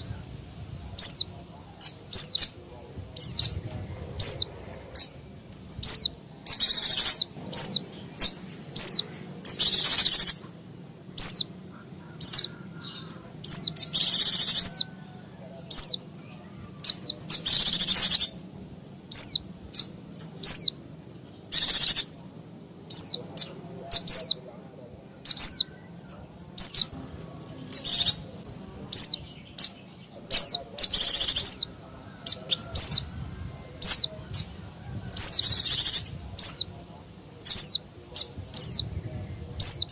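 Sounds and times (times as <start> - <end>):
bird rapid chatter: 0.0 - 15.0, 15.7 - 22.2, 25.2 - 39.0.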